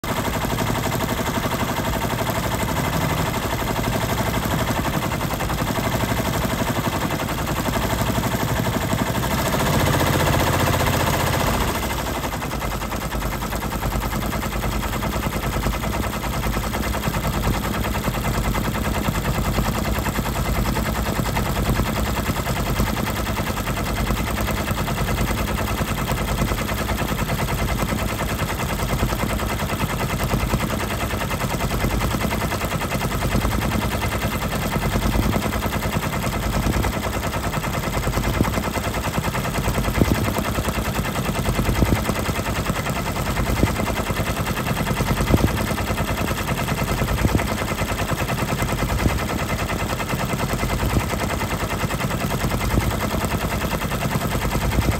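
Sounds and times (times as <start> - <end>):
embroidery machine needle clatter: 0.0 - 54.9.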